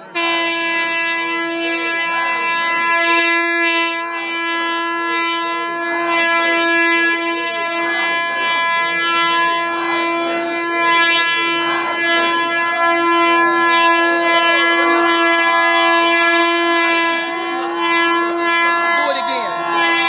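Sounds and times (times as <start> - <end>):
air horn blast: 0.0 - 20.0.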